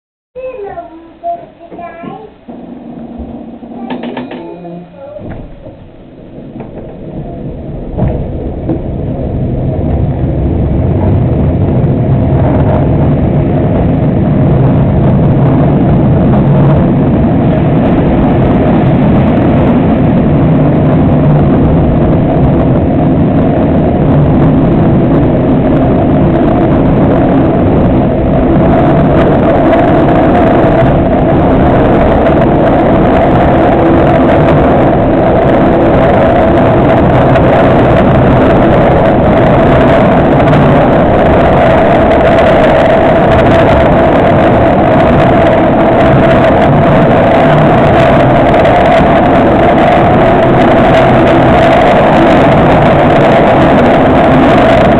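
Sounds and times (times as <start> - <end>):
electric train running hum: 0.4 - 54.9.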